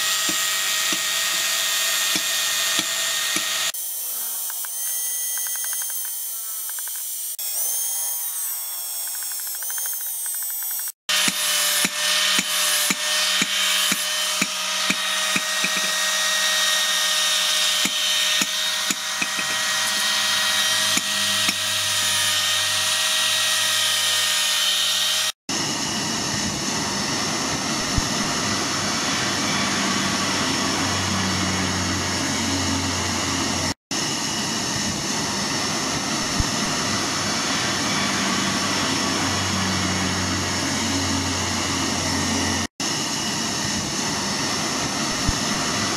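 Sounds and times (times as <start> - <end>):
angle grinder whining on metal: 0.0 - 45.9.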